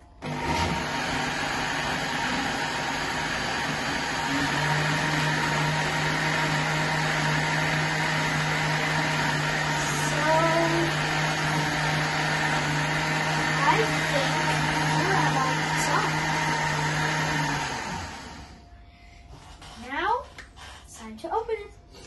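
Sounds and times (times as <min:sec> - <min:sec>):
electric blender running: 0:00.0 - 0:18.8.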